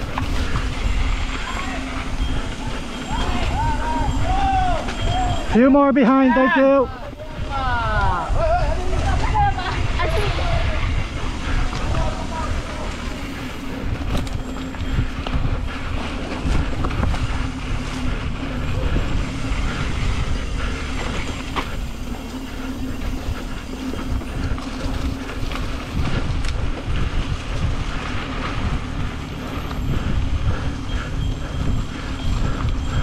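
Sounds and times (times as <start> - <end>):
bike rattling: 0.0 - 33.0
bike tyres rumbling on dirt: 0.0 - 33.0
wind buffeting microphone: 0.0 - 33.0.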